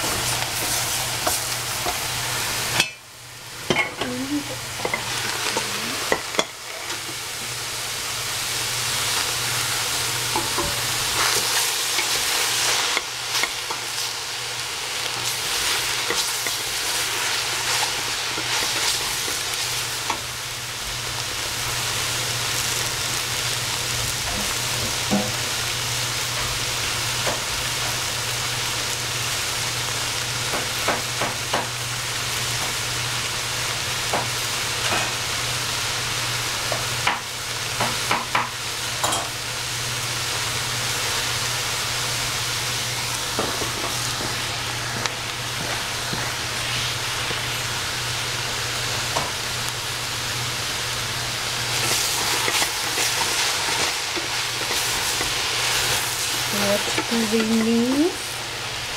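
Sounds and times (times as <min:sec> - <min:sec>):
food sizzling in oil: 0:00.0 - 0:58.9.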